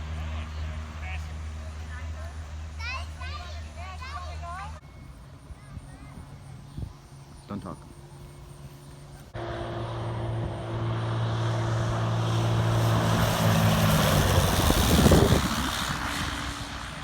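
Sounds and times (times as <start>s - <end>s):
propeller airplane passing: 0.0s - 17.0s.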